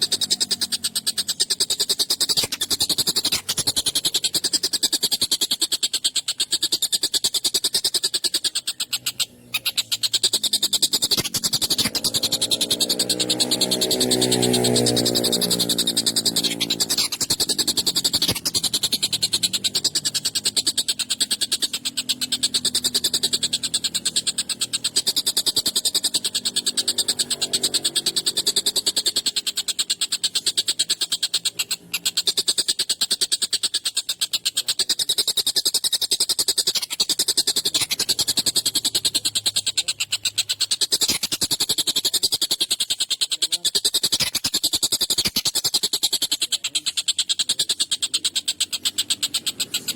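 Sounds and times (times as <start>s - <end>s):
kingfisher rasping rattle call: 0.0s - 49.9s.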